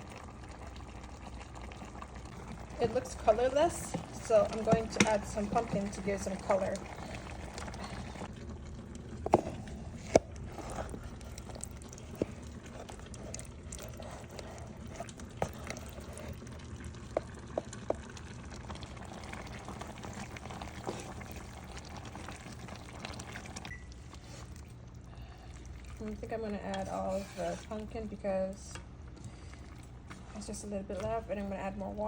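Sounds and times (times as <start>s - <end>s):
soup bubbling in a pot: 0.0s - 32.0s.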